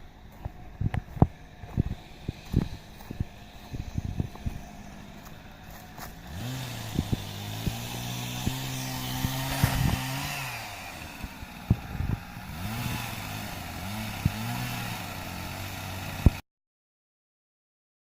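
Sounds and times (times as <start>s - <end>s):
small engine revving: 0.0s - 16.4s.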